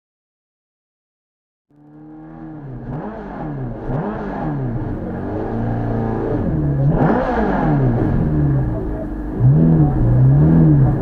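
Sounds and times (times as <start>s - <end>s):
car engine revving: 1.7s - 11.0s.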